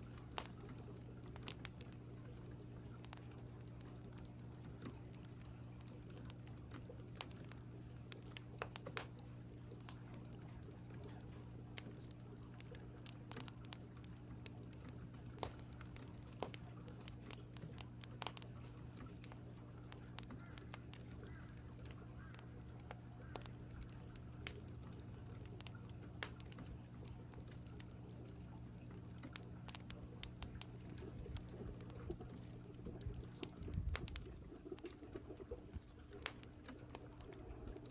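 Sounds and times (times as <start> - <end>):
low hum: 0.0 - 37.9
wood fire crackling: 0.0 - 37.9.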